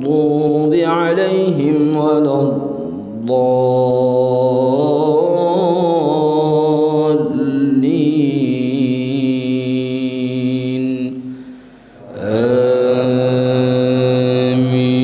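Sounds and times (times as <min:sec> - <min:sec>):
man chanting recitation: 0:00.0 - 0:11.2, 0:12.0 - 0:15.0.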